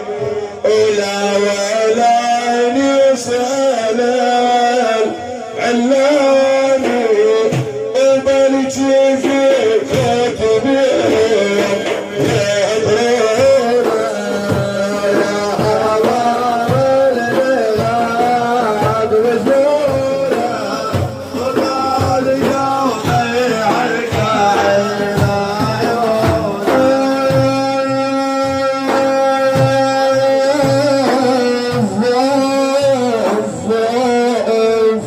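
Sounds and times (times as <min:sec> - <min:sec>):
regular drum beats: 0:00.0 - 0:35.0.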